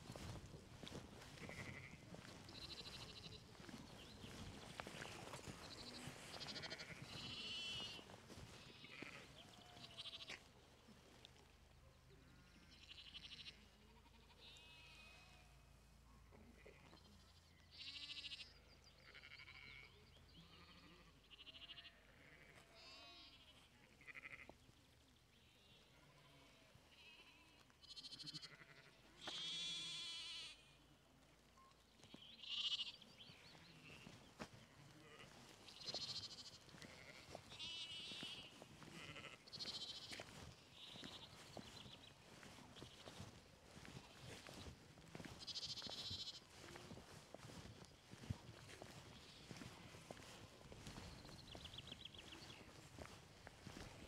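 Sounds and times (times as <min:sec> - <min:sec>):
sheep and lambs bleating: 0:00.2 - 0:10.5, 0:12.1 - 0:24.6, 0:25.4 - 0:30.9, 0:32.0 - 0:53.9.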